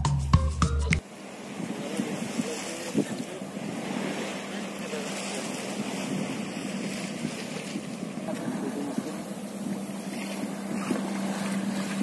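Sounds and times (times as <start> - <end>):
boat engine humming: 0.0 - 12.0
choppy water: 1.0 - 12.0
wind on microphone: 1.2 - 12.0.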